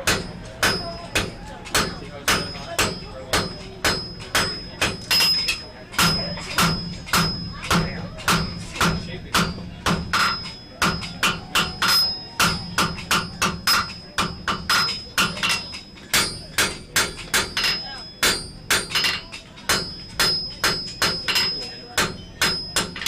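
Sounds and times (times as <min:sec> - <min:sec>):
anvil ringing: 0:00.0 - 0:23.0
hammer striking iron on anvil: 0:00.0 - 0:23.0.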